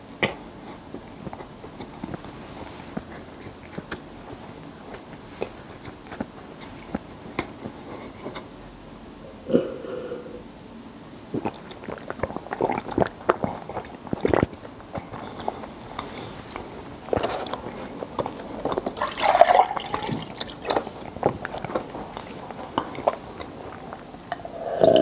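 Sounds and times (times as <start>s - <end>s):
chewing bread: 0.2s - 8.7s, 11.3s - 24.6s.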